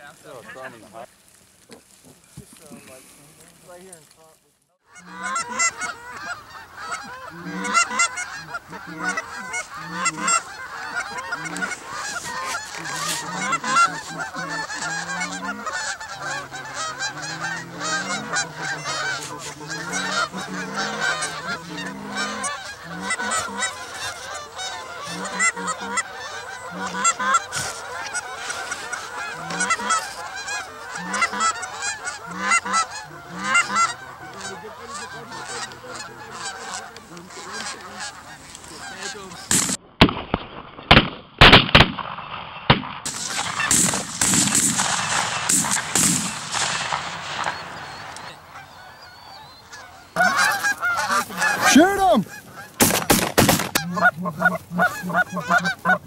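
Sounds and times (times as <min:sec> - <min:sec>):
geese honking: 0:00.0 - 0:40.1, 0:43.0 - 0:56.0.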